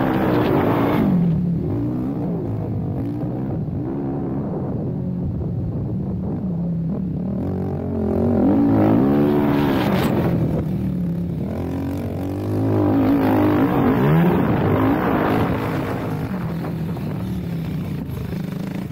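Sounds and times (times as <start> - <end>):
quad bike engine revving: 0.0 - 4.8, 7.1 - 18.9.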